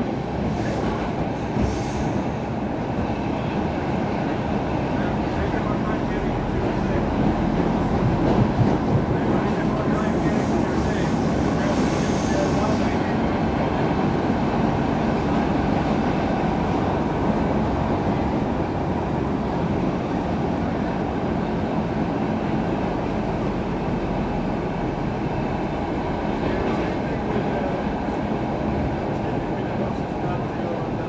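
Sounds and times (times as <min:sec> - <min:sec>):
subway car rumbling on track: 0:00.0 - 0:31.0.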